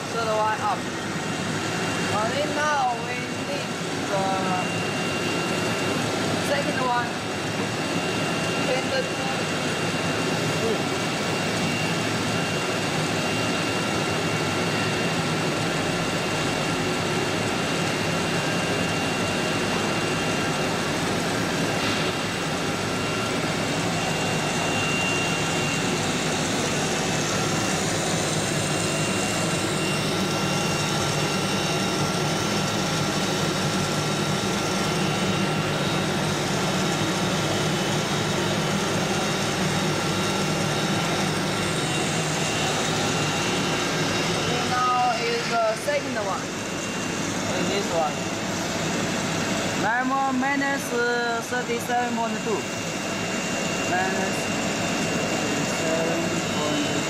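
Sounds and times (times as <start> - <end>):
faint high whining tones: 0.0 - 57.0
running machinery drone: 0.0 - 57.0.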